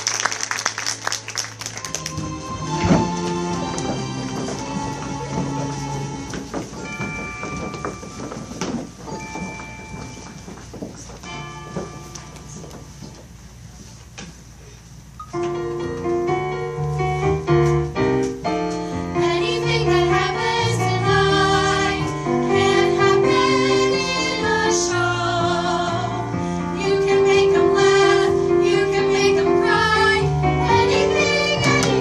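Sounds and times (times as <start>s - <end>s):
piano-led music: 0.0s - 13.8s, 15.1s - 32.0s.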